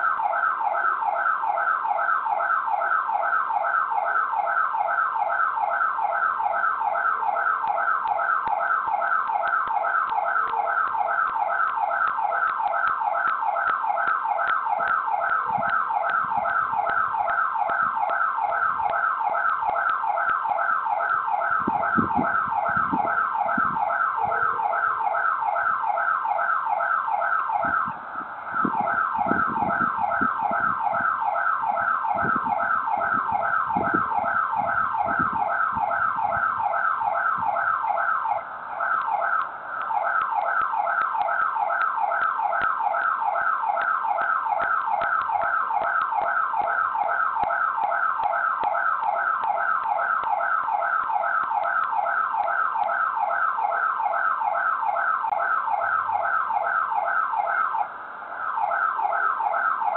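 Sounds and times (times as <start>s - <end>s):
electronic alarm siren: 0.0s - 59.9s.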